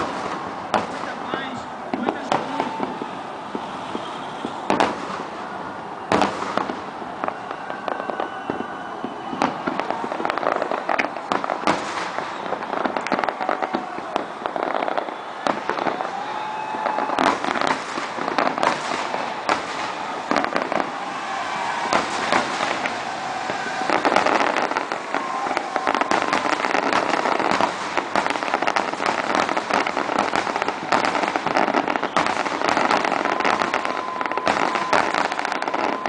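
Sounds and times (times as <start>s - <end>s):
fireworks crackling: 0.0s - 36.0s
firework shells bursting: 6.1s - 36.0s.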